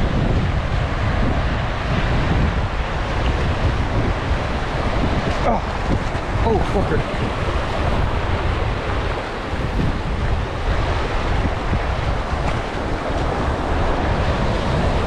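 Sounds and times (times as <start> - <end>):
small surf waves washing: 0.0 - 15.0
wind buffeting microphone: 0.0 - 15.0.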